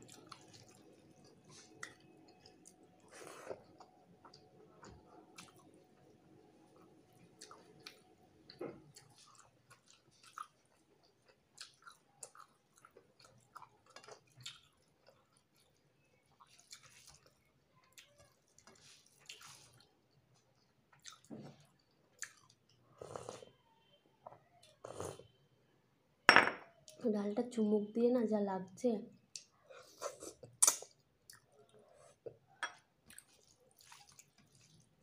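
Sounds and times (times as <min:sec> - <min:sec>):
faint chewing of food: 0:00.0 - 0:25.4, 0:29.2 - 0:35.0.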